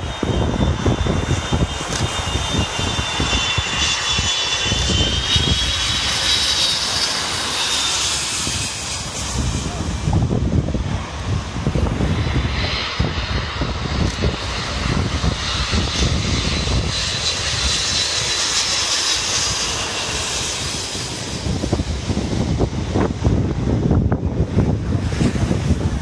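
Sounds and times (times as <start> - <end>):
jet engines whining and rumbling: 0.0 - 26.0
wind buffeting microphone: 0.0 - 26.0.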